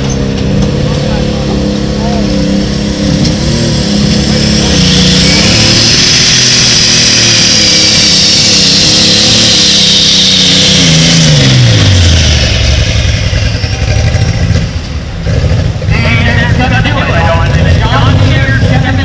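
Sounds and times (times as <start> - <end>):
vehicle engine revving high: 0.0 - 19.0.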